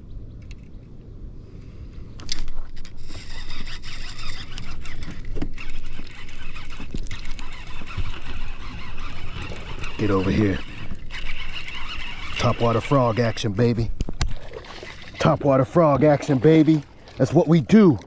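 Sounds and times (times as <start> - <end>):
fish thrashing and splashing water: 3.0 - 18.0.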